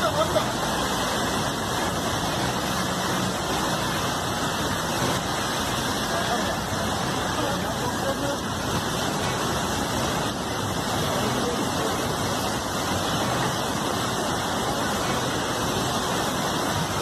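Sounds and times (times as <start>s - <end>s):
flooded river rushing: 0.0s - 17.0s.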